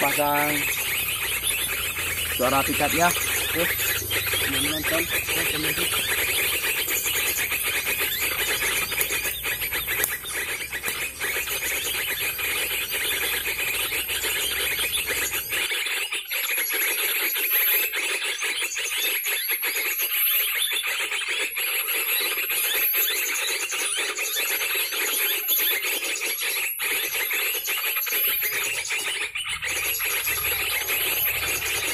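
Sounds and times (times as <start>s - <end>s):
bird twittering from speaker: 0.0s - 31.9s.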